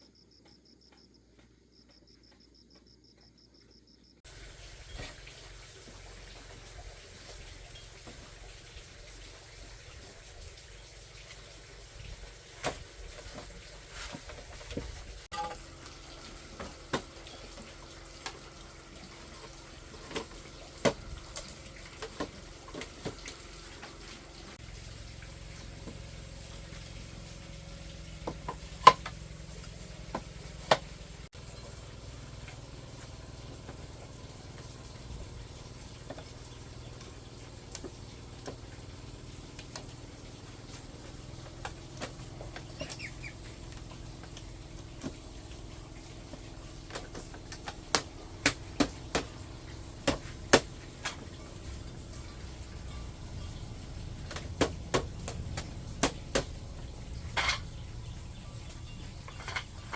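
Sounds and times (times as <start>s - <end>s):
low steady hum: 4.3s - 59.9s.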